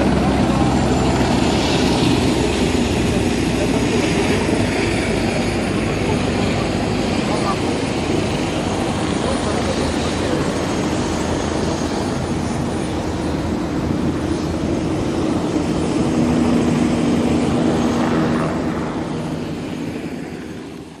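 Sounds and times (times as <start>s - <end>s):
helicopter engine and rotor drone: 0.0s - 21.0s.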